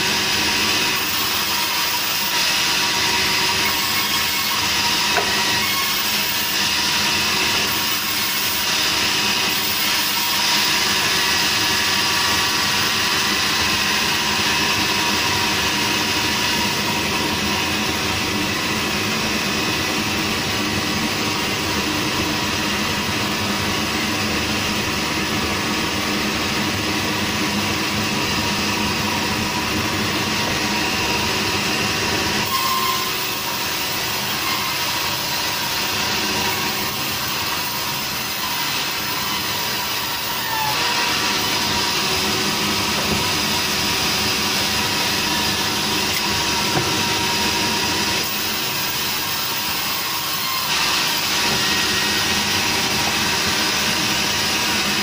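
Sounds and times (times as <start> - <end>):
band saw running: 0.0 - 55.0.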